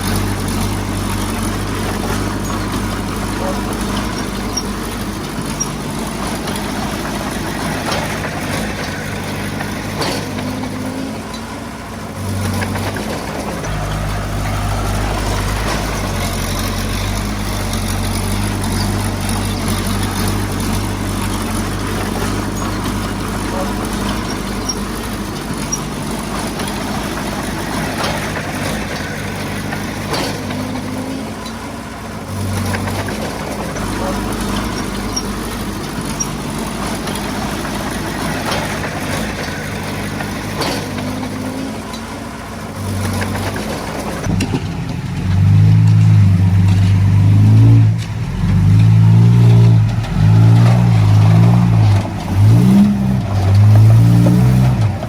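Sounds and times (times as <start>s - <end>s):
heavy diesel machinery engine: 0.0s - 55.0s.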